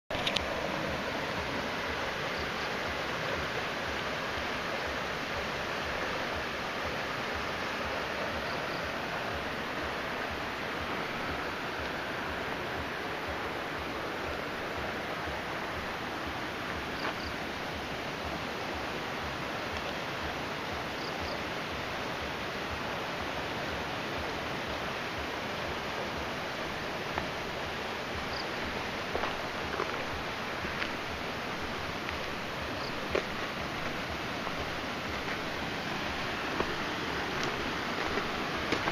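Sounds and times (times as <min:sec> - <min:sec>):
river water rushing over rocks: 0:00.1 - 0:38.9.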